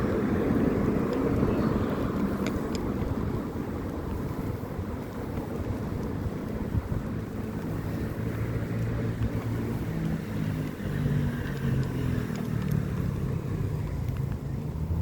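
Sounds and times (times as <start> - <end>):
motor vehicle engine hum: 0.0 - 15.0
wind on microphone: 0.0 - 15.0.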